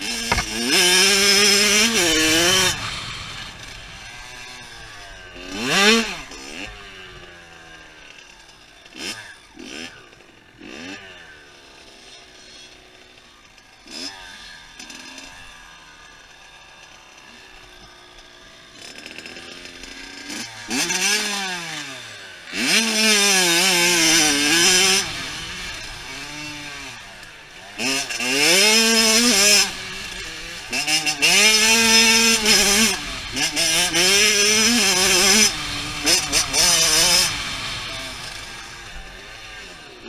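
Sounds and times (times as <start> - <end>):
dirt bike engine revving hard: 0.0 - 40.0.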